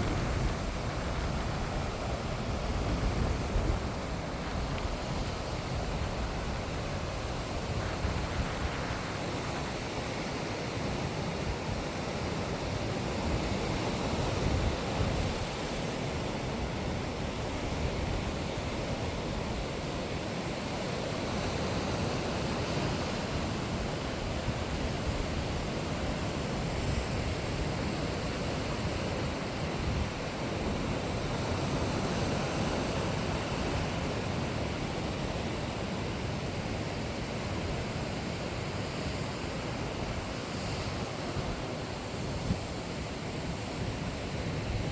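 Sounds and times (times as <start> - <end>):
sea waves breaking on shore: 0.0 - 44.9
wind rumbling on microphone: 0.0 - 44.9.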